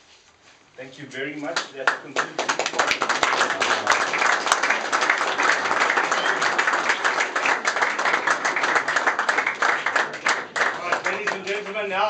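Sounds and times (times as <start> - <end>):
crowd applauding: 1.6 - 11.9.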